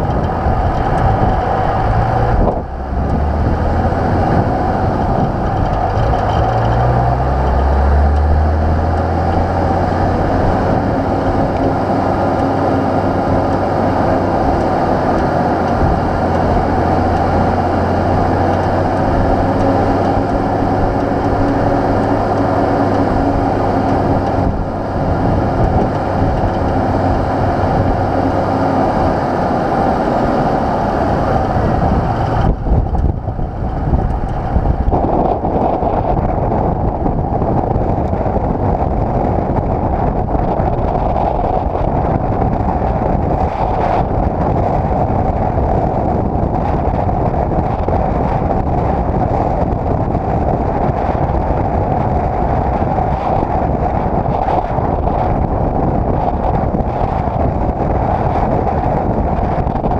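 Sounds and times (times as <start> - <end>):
diesel engine driving: 0.0 - 59.9
road noise: 0.0 - 59.9.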